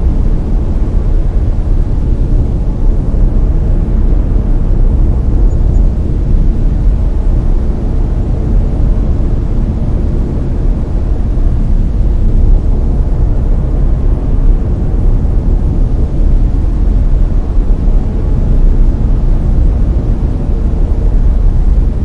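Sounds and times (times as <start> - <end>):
brown noise: 0.0 - 22.0.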